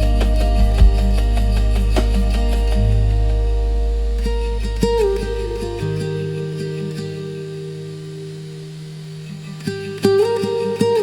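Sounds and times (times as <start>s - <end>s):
soft acoustic guitar music: 0.0s - 11.0s.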